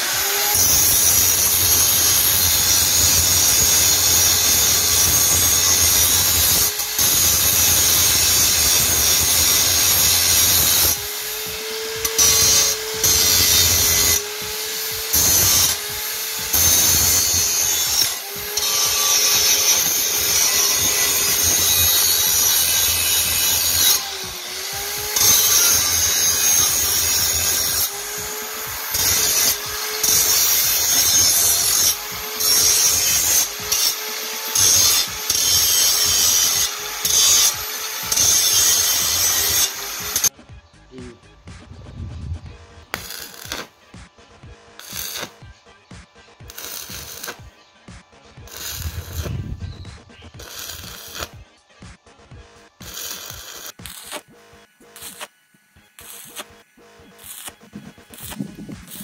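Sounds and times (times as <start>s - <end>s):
angle grinder cutting steel: 0.0s - 40.3s, 42.8s - 43.8s, 44.8s - 45.5s, 46.4s - 47.5s, 48.5s - 51.4s, 52.8s - 59.0s.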